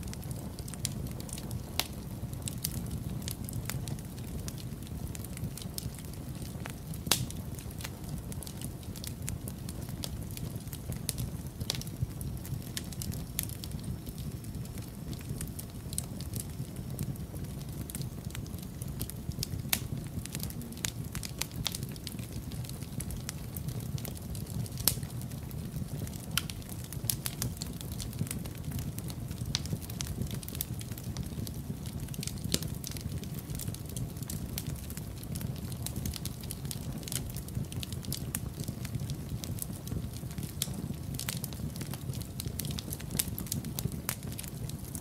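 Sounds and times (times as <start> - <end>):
burning logs popping: 0.0 - 45.0
wood fire crackling: 0.0 - 45.0.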